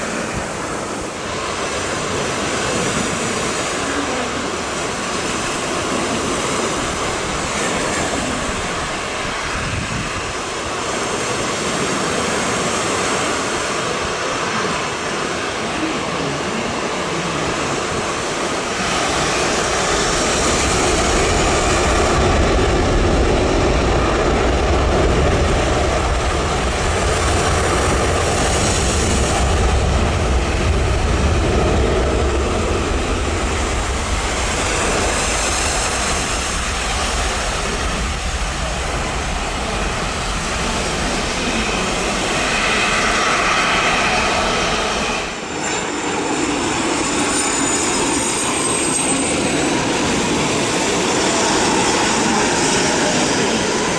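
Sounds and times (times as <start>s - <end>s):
business jet approaching: 0.0s - 53.9s
jet engine blast: 0.0s - 53.9s
wind rumble on microphone: 0.0s - 53.9s.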